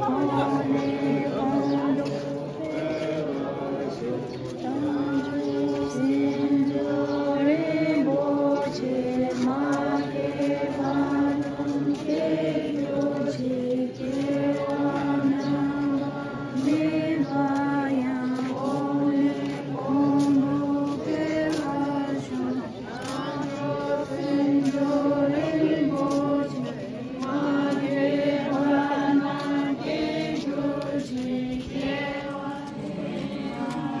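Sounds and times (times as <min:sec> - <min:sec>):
crowd chanting in unison: 0:00.0 - 0:34.0.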